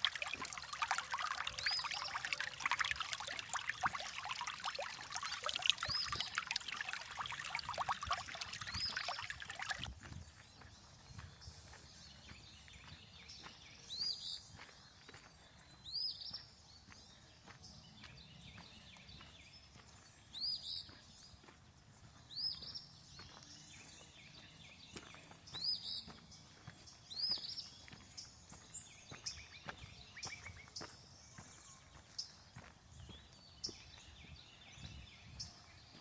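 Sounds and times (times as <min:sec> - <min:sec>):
outdoor background noise: 0:00.0 - 0:36.0.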